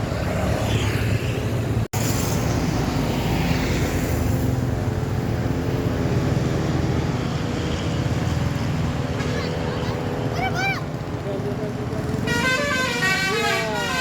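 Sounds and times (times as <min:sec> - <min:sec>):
bus engine drone: 0:00.0 - 0:14.0
road traffic: 0:00.0 - 0:14.0.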